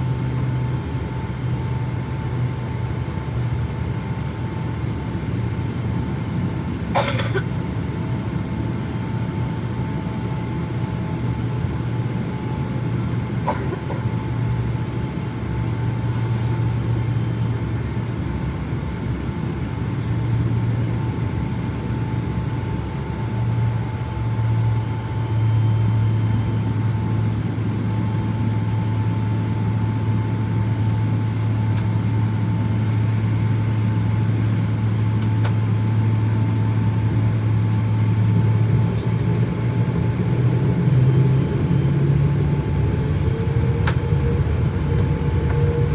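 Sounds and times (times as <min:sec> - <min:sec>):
engine low hum: 0:00.0 - 0:45.9.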